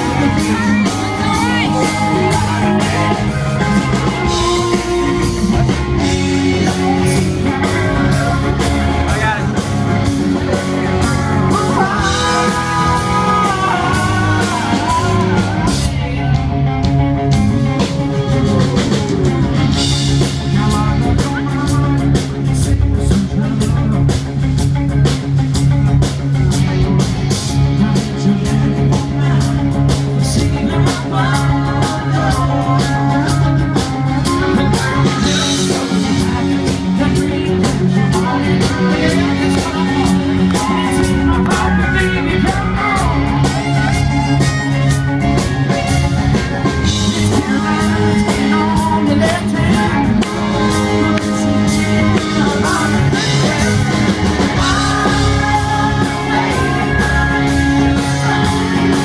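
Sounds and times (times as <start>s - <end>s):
country-rock band playing live: 0.0s - 59.0s
lead vocal singing: 0.0s - 59.0s.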